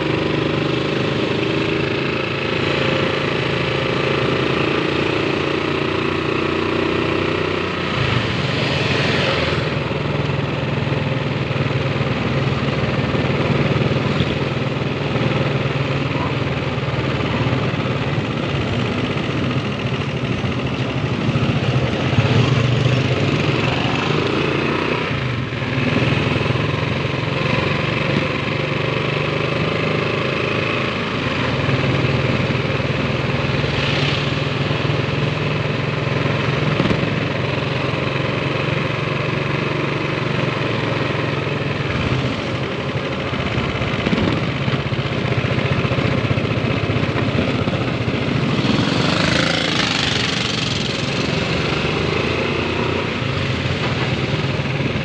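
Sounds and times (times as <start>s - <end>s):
motorcycle engine humming: 0.0s - 55.0s.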